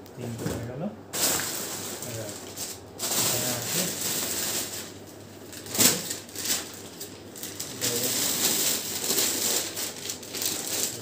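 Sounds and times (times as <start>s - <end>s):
plastic bags rustling and crinkling: 0.2s - 11.0s.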